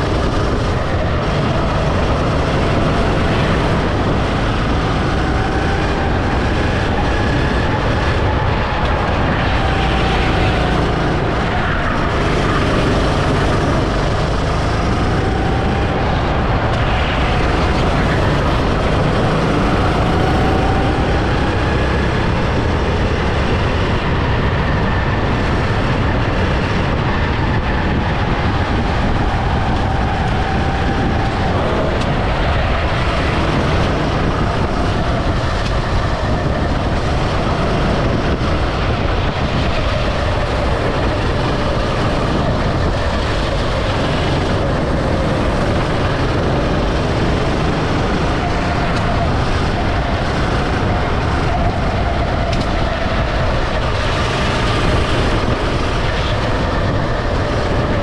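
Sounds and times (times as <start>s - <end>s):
go-kart engine racing: 0.0s - 58.0s
rushing noise: 0.0s - 58.0s.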